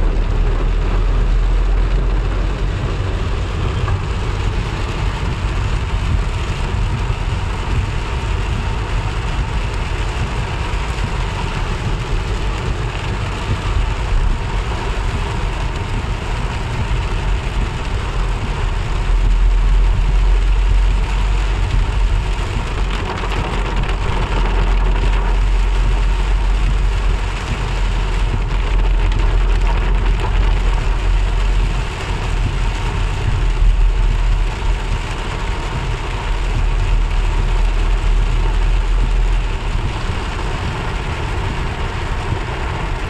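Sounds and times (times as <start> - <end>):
car engine and tyres rumble: 0.0 - 43.0
heavy rain on car roof: 0.0 - 43.0.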